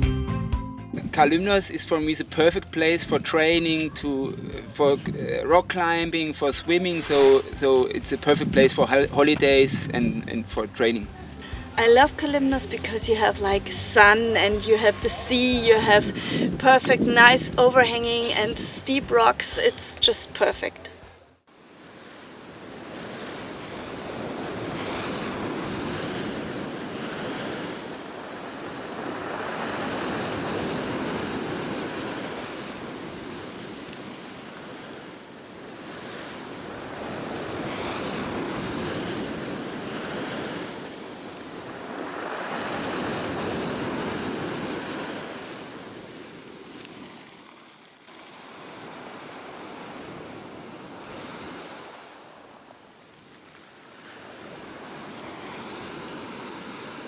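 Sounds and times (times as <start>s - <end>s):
sea waves washing in: 0.9s - 20.9s, 21.5s - 57.0s.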